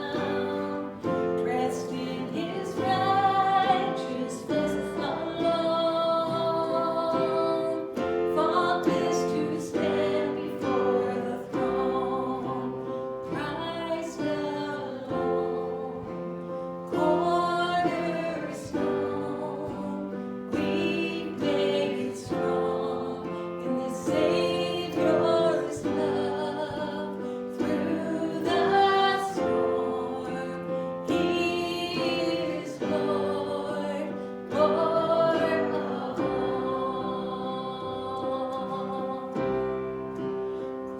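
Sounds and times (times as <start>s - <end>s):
voices singing: 0.0s - 40.3s.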